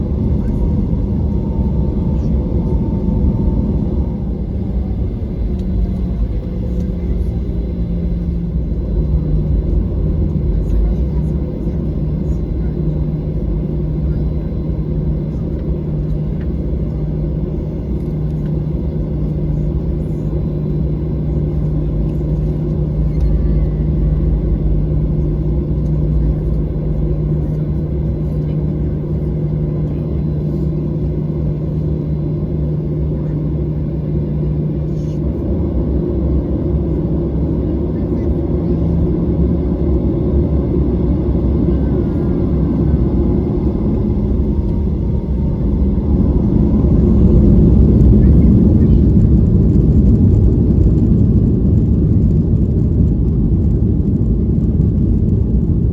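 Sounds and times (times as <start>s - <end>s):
jet engines rumbling in cabin: 0.0s - 55.9s
low steady drone: 0.0s - 55.9s.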